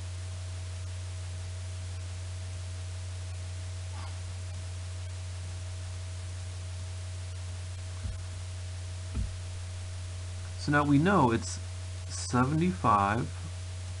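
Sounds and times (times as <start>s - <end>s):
background hiss: 0.0s - 14.0s
low electrical hum: 0.0s - 14.0s.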